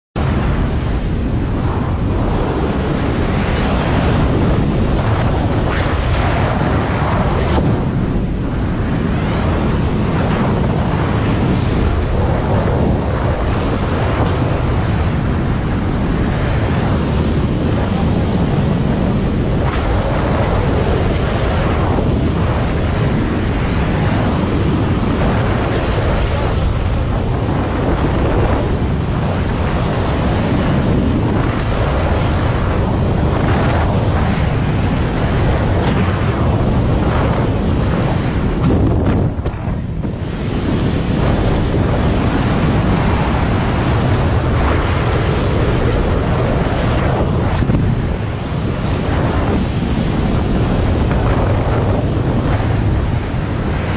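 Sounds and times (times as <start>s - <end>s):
wind buffeting microphone: 0.1s - 53.9s.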